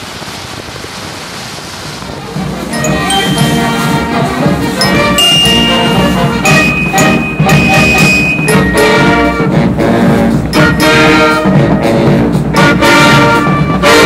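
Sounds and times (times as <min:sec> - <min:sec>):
marching band playing: 0:02.3 - 0:14.0.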